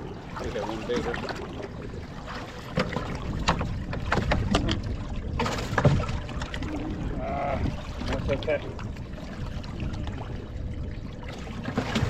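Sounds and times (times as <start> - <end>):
knocks and clatters in boat: 0.0 - 12.0
wind buffeting microphone: 0.0 - 12.0.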